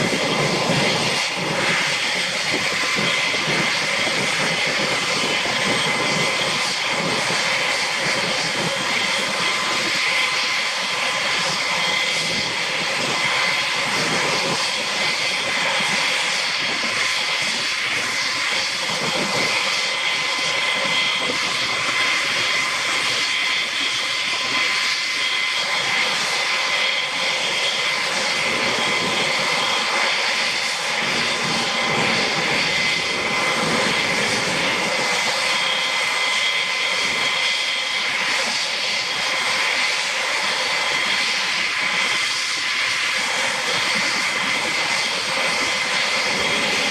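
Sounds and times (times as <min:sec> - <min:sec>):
constant rushing noise: 0:00.0 - 0:46.9
helicopter turbine whine: 0:00.0 - 0:46.9.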